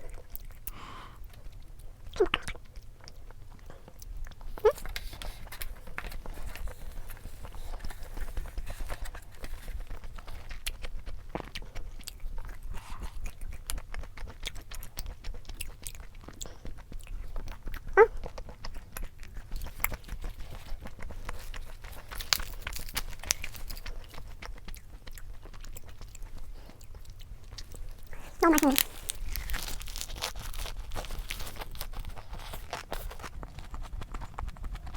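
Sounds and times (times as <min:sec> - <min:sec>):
chewing and crunching: 0:00.0 - 0:34.9.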